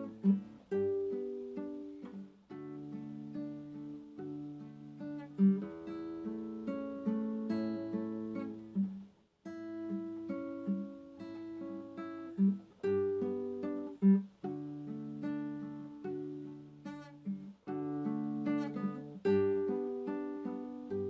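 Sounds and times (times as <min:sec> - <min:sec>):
acoustic guitar plucking: 0:00.0 - 0:21.0.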